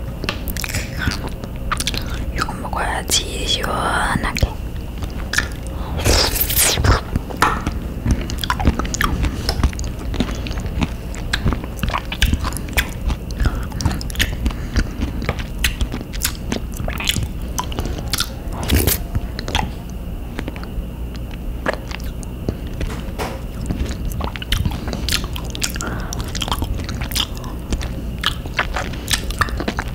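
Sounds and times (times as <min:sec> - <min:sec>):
mouth eating sounds: 0:00.4 - 0:22.9, 0:23.5 - 0:29.9.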